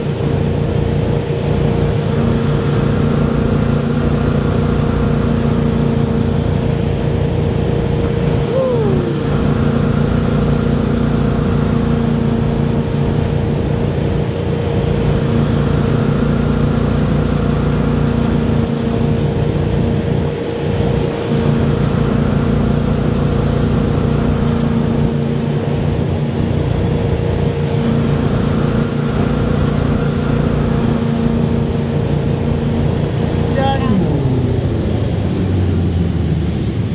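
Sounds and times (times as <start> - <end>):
boat engine droning: 0.0 - 36.9
wake and spray rushing: 0.0 - 36.9.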